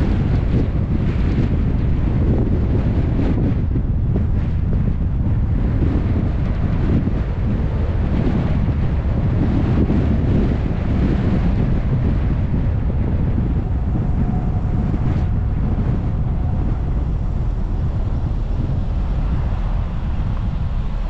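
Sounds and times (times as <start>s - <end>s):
faint steady whine: 0.0s - 21.0s
road and engine rumble: 0.0s - 21.0s
wind buffeting microphone: 0.0s - 21.0s.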